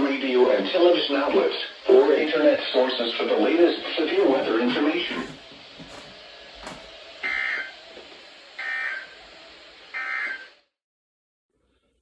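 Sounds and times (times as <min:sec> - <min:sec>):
radio static hiss: 0:00.0 - 0:10.7.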